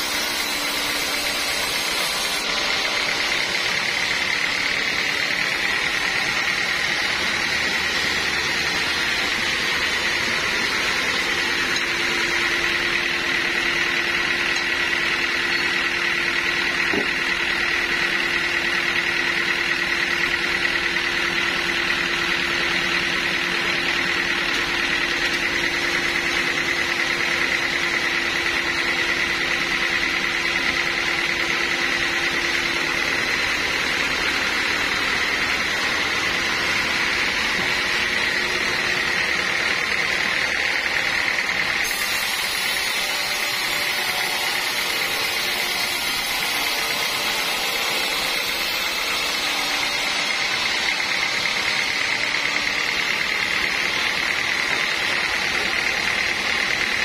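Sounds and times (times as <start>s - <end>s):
band sawmill drone: 0.0s - 57.0s.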